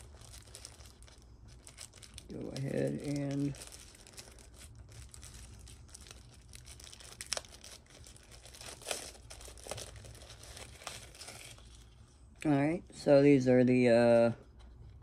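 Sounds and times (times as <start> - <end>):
packaging crinkling: 0.0 - 12.2.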